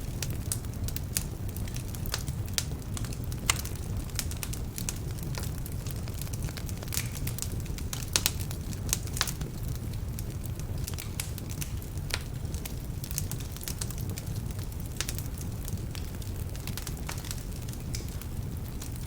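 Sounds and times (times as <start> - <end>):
fire flames rumbling: 0.0 - 19.0
fire popping and crackling: 0.0 - 19.0.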